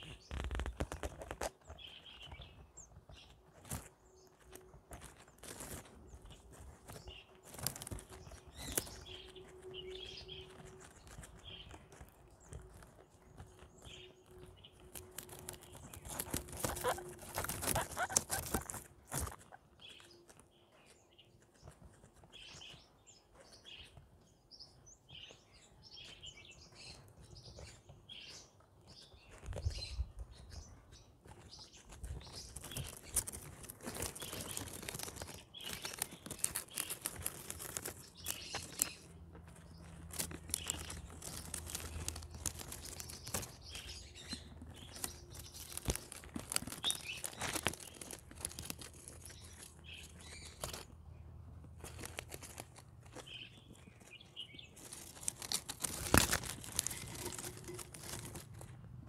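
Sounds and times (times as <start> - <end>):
guinea pigs chewing plants: 0.0 - 59.0.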